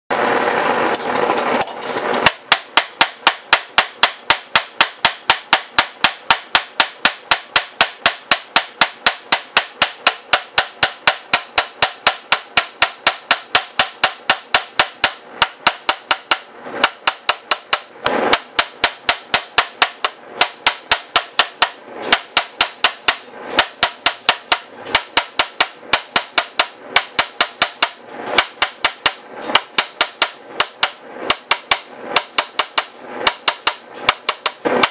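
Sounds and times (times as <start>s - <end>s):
hammer striking steel on anvil: 1.0s - 34.9s.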